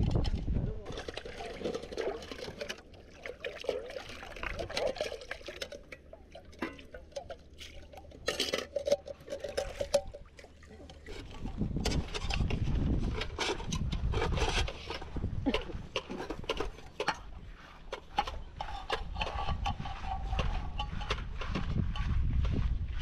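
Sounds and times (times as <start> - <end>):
water pouring and sloshing: 0.0 - 23.0.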